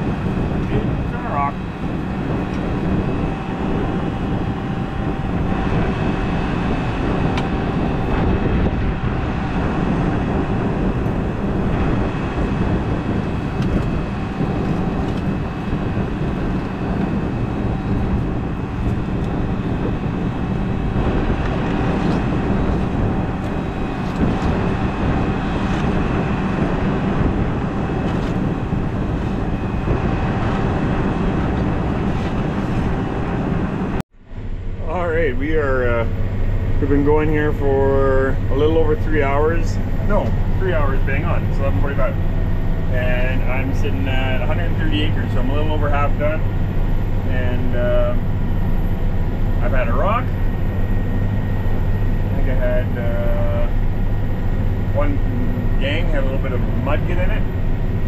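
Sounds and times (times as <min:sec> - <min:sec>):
steady tones: 0:00.0 - 0:58.0
tractor engine droning: 0:00.0 - 0:58.0.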